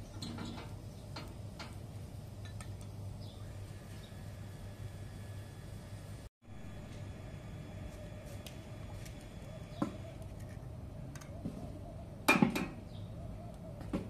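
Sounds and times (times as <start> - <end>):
faint steady hum: 0.0 - 13.8.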